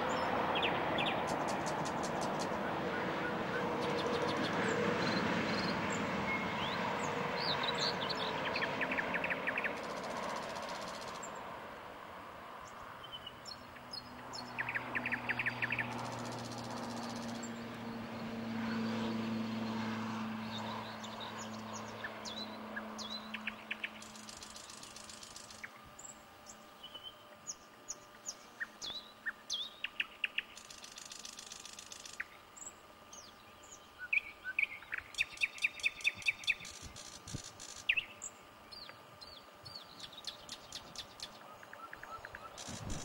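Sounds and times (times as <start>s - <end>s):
birds chirping and singing: 0.0s - 11.4s, 12.6s - 18.4s, 20.4s - 43.0s.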